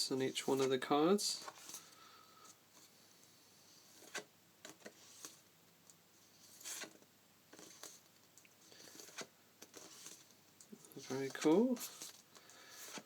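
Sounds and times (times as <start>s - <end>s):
cards rustling: 0.2s - 5.4s, 6.3s - 13.0s.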